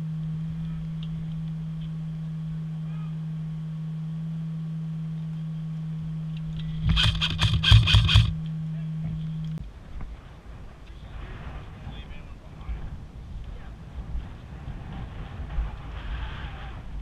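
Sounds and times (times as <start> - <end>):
low-pitched hum: 0.0 - 17.0.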